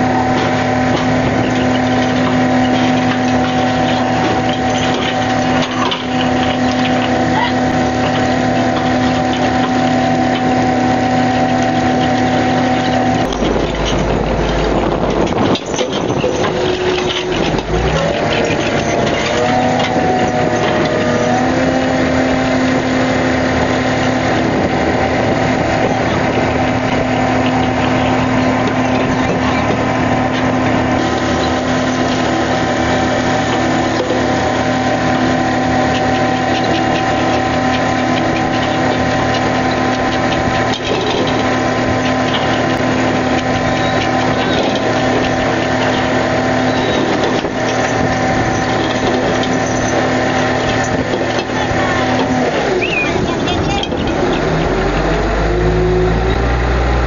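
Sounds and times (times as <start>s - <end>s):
boat engine and deck machinery humming: 0.0s - 57.0s.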